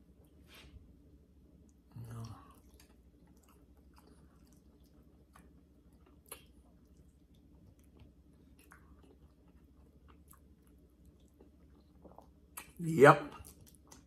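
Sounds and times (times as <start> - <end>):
low steady hum: 0.0 - 14.0
faint chewing: 1.6 - 14.0.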